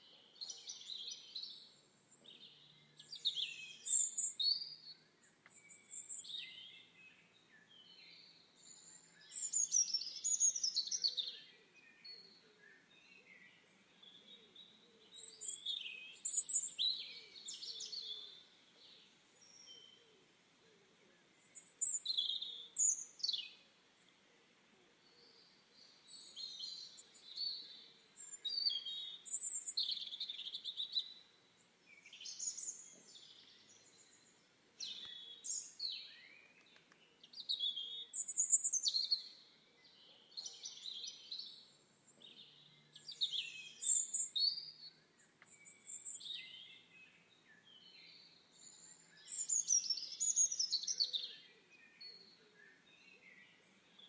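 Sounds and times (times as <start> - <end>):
faint background hiss: 0.0 - 54.0
songbirds singing: 0.0 - 54.0.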